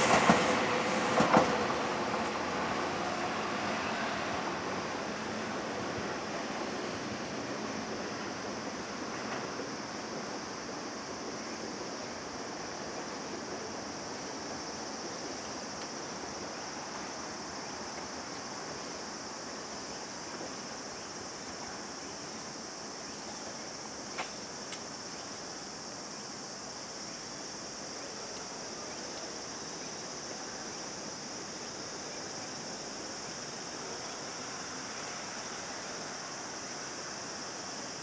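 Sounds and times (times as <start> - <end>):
insects chirring: 0.0 - 38.0
outdoor background hiss: 0.0 - 38.0.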